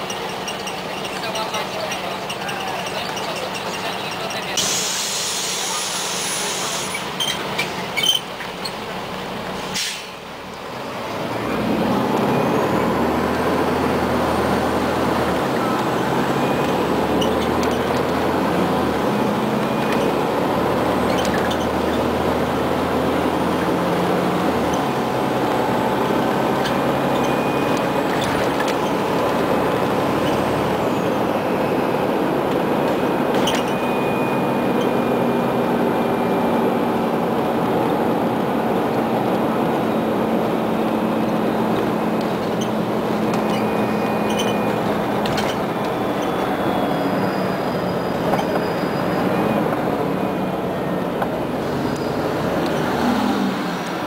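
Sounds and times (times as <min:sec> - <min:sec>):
bus engine changing gears: 0:00.0 - 0:54.0.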